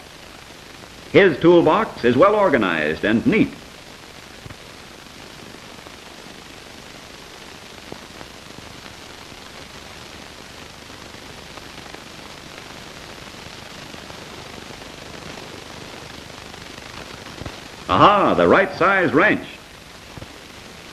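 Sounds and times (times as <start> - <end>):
background hiss and crackle: 0.0 - 20.9.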